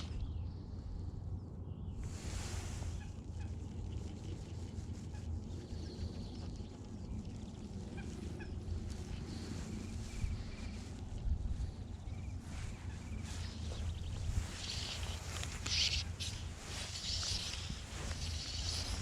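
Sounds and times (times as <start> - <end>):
steady low rumble: 0.0 - 19.0
birds calling: 1.8 - 19.0.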